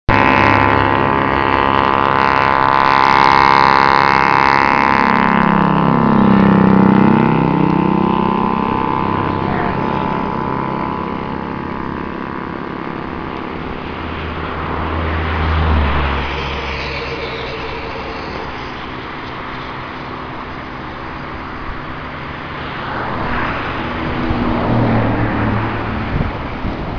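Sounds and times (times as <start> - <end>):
jet engines at takeoff power: 0.1 - 26.9.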